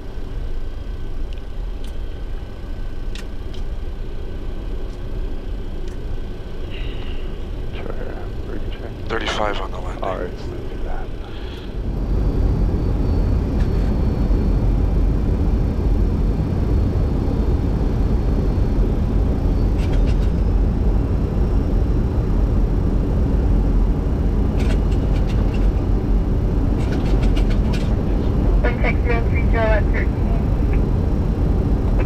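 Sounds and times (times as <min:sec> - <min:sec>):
engine and airflow rumble: 0:00.0 - 0:32.0.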